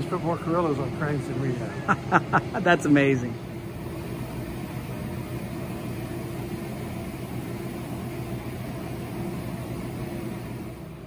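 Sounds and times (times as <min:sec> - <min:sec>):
machine hum with two tones: 0:00.0 - 0:11.0.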